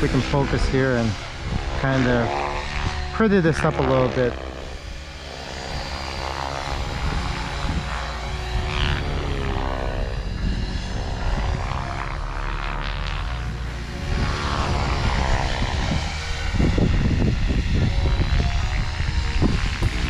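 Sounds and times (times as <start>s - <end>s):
rc helicopter rotor whine: 0.0s - 20.0s.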